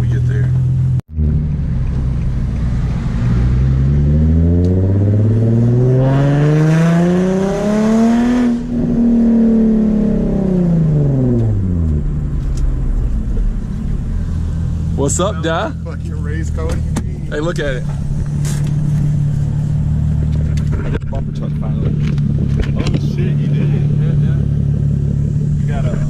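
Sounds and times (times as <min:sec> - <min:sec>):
sports car engine accelerating: 0:00.1 - 0:26.0.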